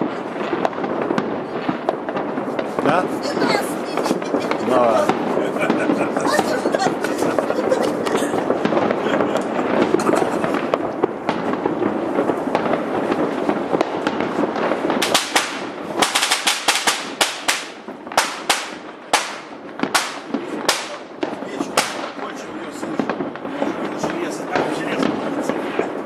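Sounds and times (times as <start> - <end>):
fireworks crackling: 0.0 - 26.0
fireworks sharp bangs: 0.0 - 26.0.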